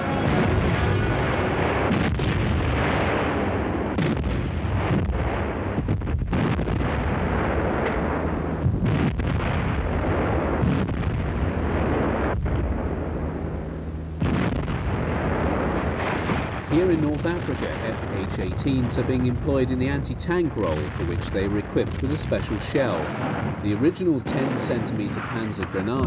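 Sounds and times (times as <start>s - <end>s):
field howitzers firing: 0.0s - 26.0s
heavy rumble of gunfire: 0.0s - 26.0s.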